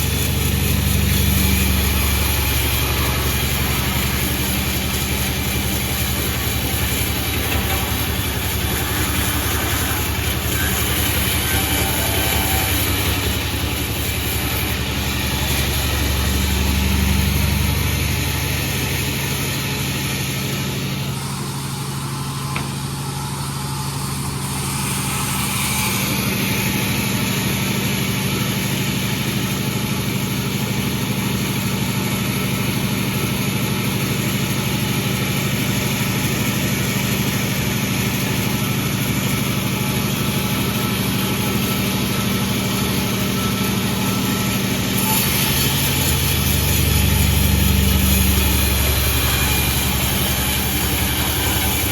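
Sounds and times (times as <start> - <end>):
sawmill running: 0.0 - 51.9.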